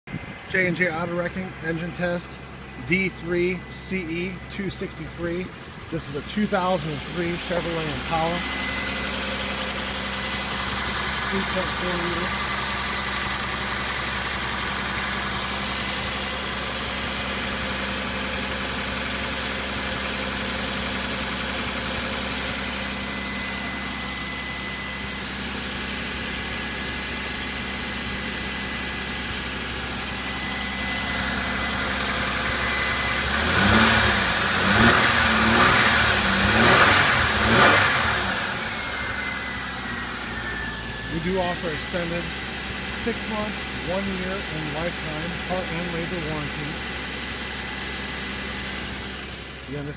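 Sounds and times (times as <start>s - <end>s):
car engine idling and revving: 0.1s - 49.9s.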